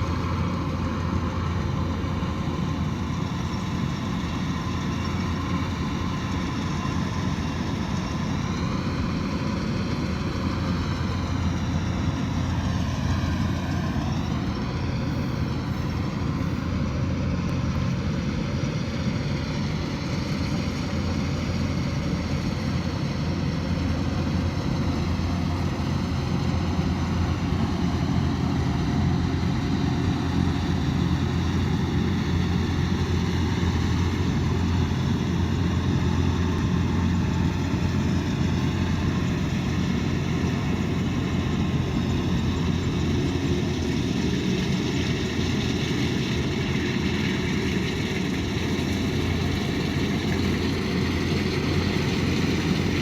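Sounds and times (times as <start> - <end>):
combine harvester engine droning: 0.0 - 53.0.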